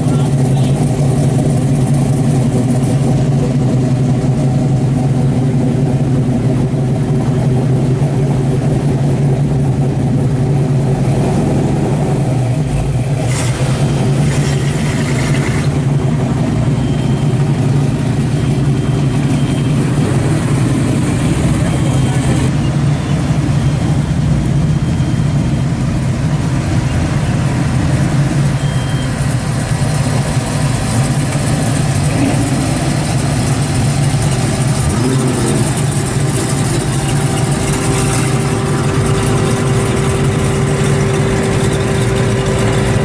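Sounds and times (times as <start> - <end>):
car exhausts idling: 0.0 - 43.0.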